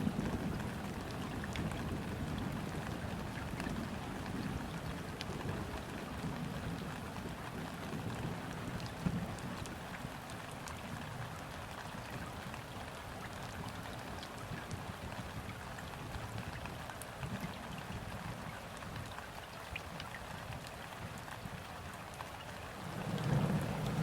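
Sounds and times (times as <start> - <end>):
rain falling on river water: 0.0 - 24.0.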